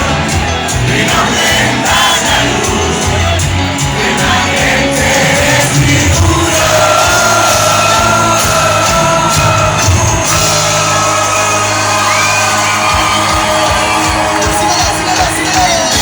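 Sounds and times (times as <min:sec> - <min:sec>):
crowd singing and shouting: 0:00.0 - 0:16.0
live band music: 0:00.0 - 0:16.0.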